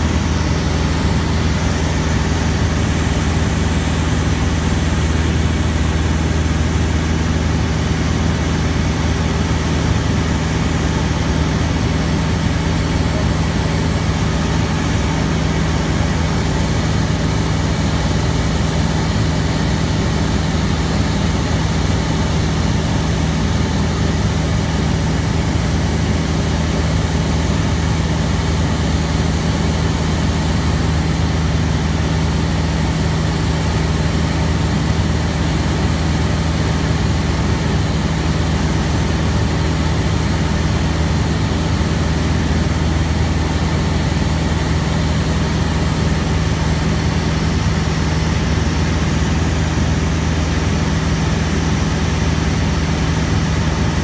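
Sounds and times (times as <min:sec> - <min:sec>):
aircraft engine humming: 0:00.0 - 0:54.0.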